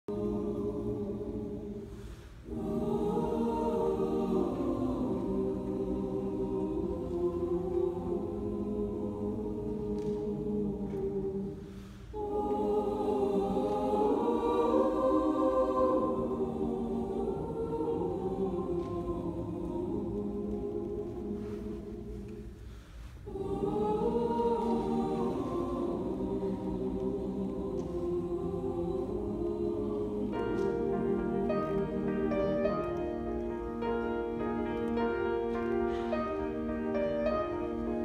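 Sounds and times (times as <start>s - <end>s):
mixed choir singing: 0.0s - 38.0s.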